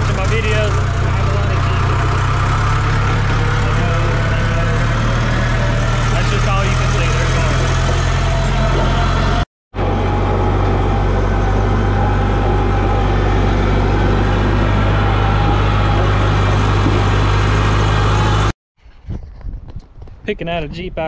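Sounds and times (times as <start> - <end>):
work machine engine drone: 0.0 - 18.6.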